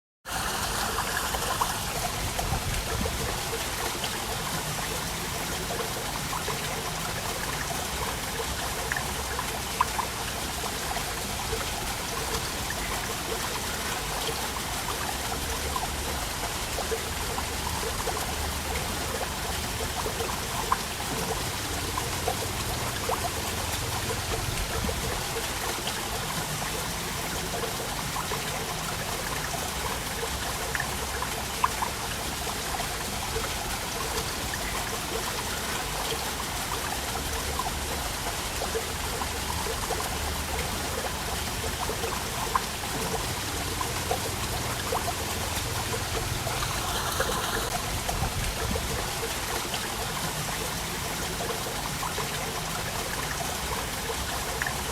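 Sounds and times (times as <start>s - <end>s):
waterfall rushing: 0.3s - 54.9s.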